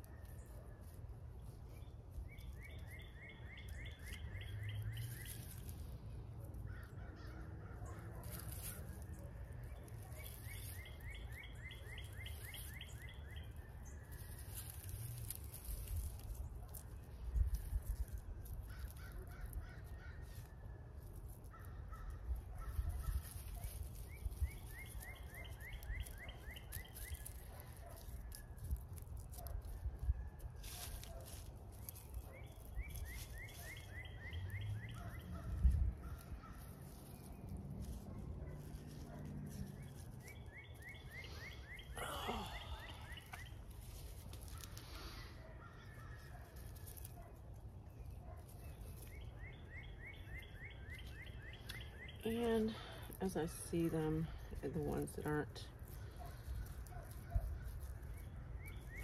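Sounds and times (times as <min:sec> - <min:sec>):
songbird singing: 0:00.0 - 0:28.8, 0:29.4 - 0:59.0
low outdoor background noise: 0:00.0 - 0:59.0.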